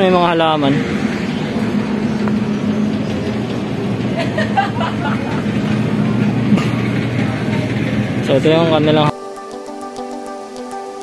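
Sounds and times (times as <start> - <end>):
low mechanical hum: 0.0 - 9.1.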